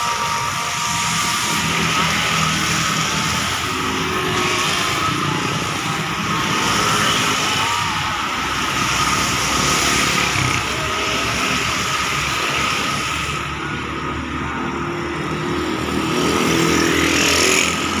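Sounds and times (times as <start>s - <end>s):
motorcycles passing on wet road: 0.0s - 13.8s, 14.4s - 18.0s
cars passing on wet road: 0.0s - 18.0s.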